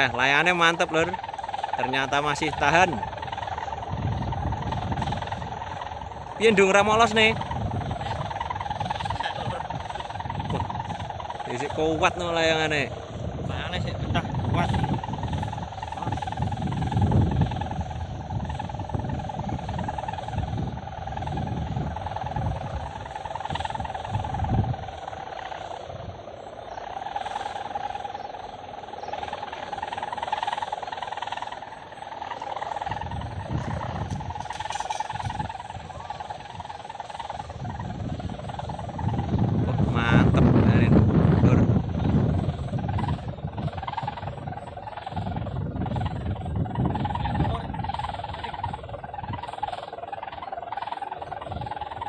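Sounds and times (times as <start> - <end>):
wind buffeting on microphone: 0.0 - 26.8, 32.6 - 52.0
kite droning hum: 0.0 - 30.9, 31.5 - 52.0.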